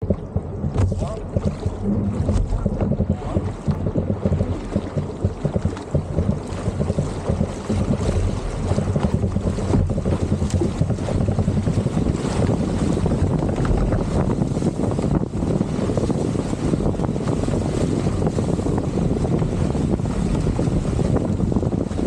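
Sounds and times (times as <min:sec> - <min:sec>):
water sloshing and splashing: 0:00.0 - 0:22.0
wind buffeting microphone: 0:00.0 - 0:22.0.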